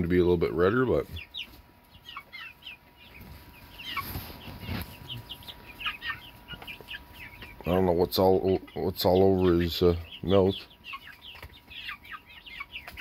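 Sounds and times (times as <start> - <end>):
young chickens peeping: 0.0 - 13.0.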